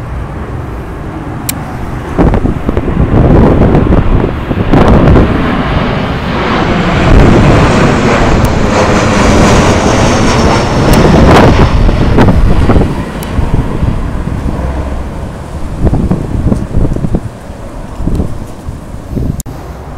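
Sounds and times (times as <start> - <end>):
jet engines whining: 0.0 - 19.9
wind buffeting microphone: 0.0 - 19.9.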